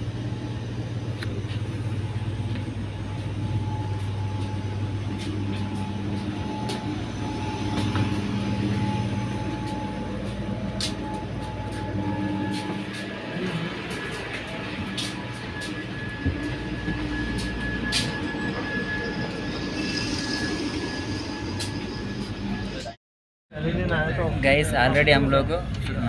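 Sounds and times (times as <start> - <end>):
faint steady whine: 0.0 - 23.0
train coach hum: 0.0 - 23.0.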